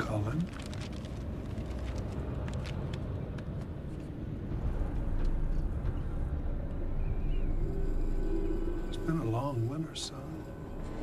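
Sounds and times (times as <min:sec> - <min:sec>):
wind rumbling: 0:00.0 - 0:11.0.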